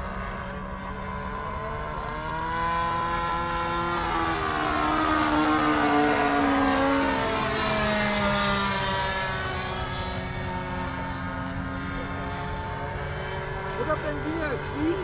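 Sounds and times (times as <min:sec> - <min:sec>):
model airplane engine whine: 0:00.0 - 0:15.0.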